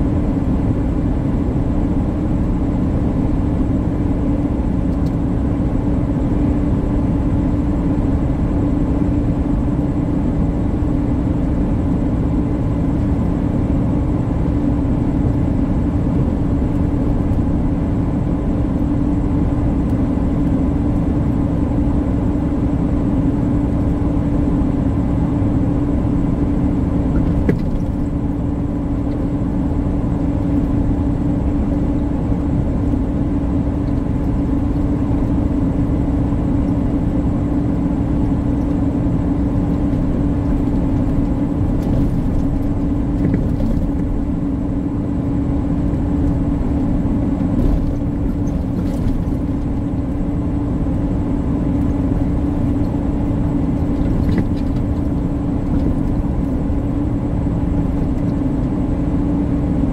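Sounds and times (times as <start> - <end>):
low road rumble: 0.0 - 59.9
truck engine and tyres droning: 0.0 - 59.9.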